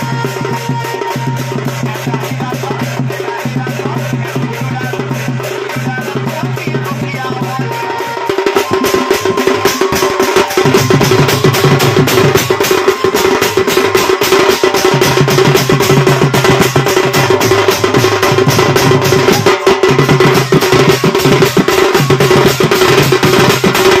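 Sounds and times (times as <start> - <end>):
drum beaten fast with a stick: 0.0 - 24.0.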